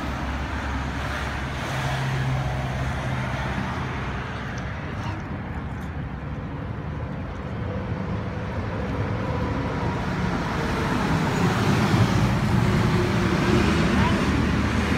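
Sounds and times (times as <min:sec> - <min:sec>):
road traffic rumble: 0:00.0 - 0:14.9
vehicle approaching: 0:00.0 - 0:14.9.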